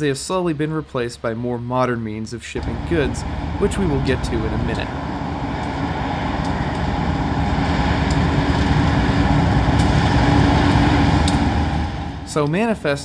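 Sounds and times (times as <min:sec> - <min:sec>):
freight train locomotives rumbling: 0:02.4 - 0:13.0
steady engine tone: 0:02.5 - 0:13.0.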